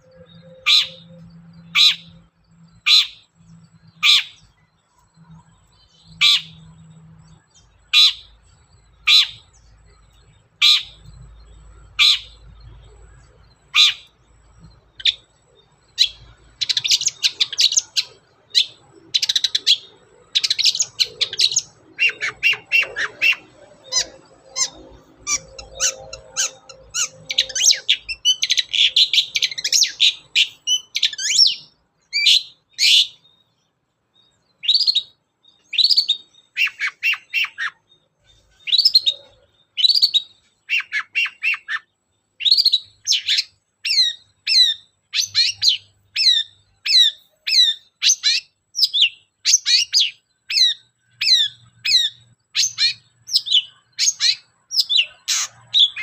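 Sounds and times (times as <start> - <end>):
shrike calling and chattering: 0.0 - 33.4, 34.5 - 56.0.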